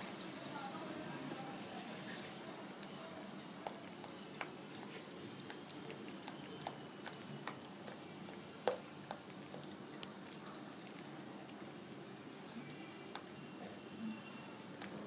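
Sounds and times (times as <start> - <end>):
spoon stirring thick batter: 1.1 - 15.0.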